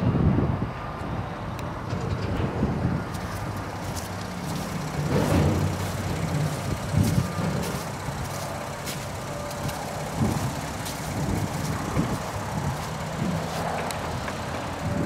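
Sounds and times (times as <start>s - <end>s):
engine idling: 1.9s - 15.0s.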